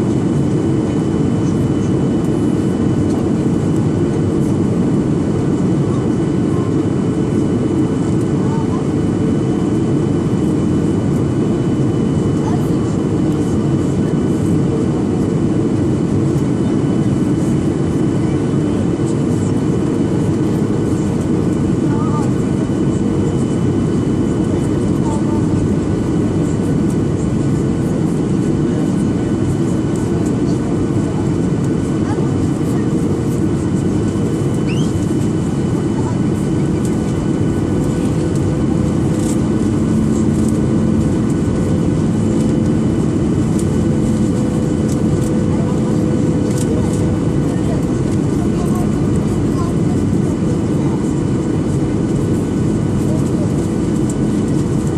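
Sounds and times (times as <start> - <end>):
jet engines rumbling in flight: 0.0 - 54.9.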